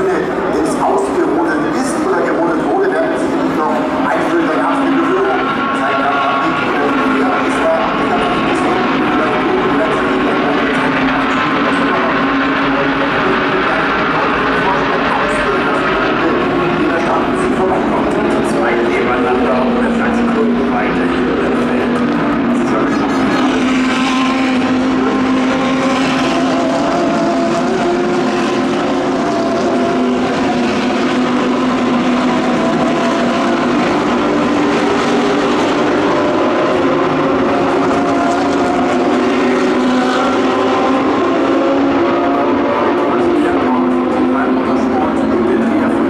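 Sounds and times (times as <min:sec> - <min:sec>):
race car engines at steady revs: 0:00.0 - 0:46.0.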